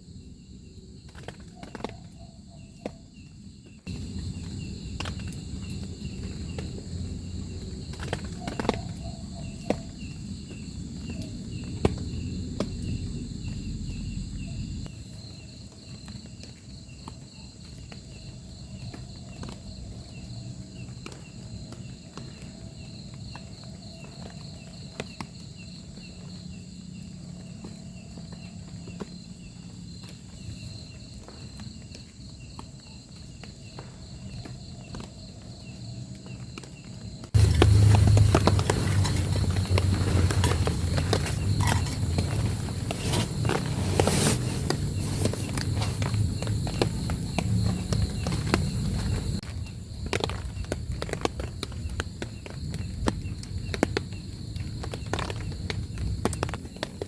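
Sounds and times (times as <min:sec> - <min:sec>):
insects chirping in trills: 0:00.0 - 0:57.0.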